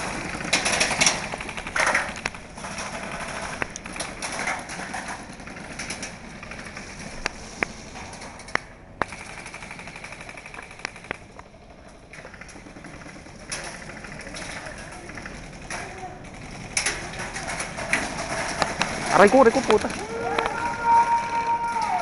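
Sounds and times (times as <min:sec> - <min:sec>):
airsoft guns firing: 0:00.0 - 0:22.0.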